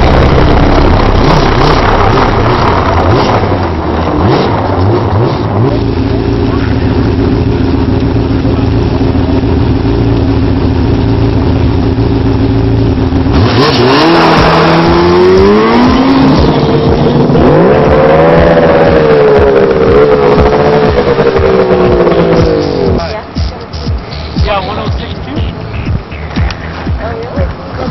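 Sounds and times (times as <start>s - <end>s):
snowmobile engine revving: 0.0s - 9.2s, 13.2s - 26.9s.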